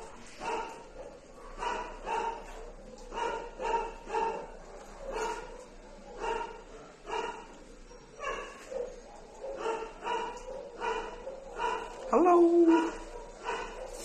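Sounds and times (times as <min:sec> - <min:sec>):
dog barking: 0:00.0 - 0:14.0.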